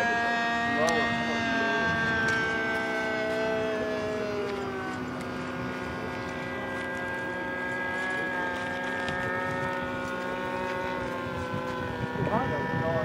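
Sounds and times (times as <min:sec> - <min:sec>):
model plane engine buzzing: 0:00.0 - 0:13.0.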